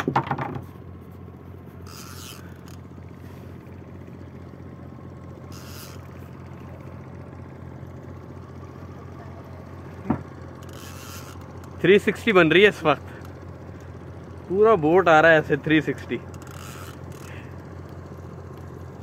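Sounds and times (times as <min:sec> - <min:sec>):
boat engine throbbing: 0:00.0 - 0:19.0.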